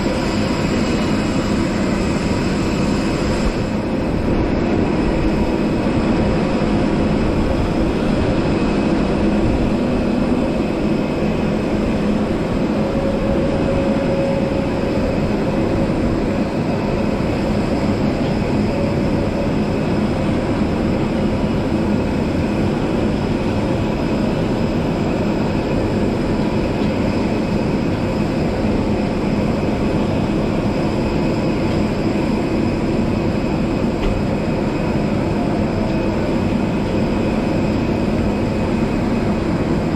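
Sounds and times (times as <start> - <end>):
aircraft machine drone with whines: 0.0 - 39.9.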